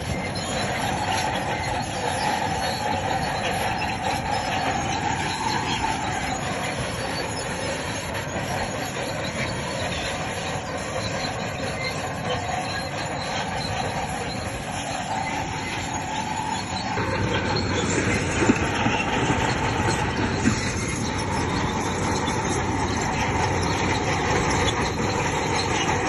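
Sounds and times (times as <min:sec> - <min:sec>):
bulldozer engine running: 0:00.0 - 0:26.0
steel tracks squealing and clanking: 0:00.0 - 0:26.0.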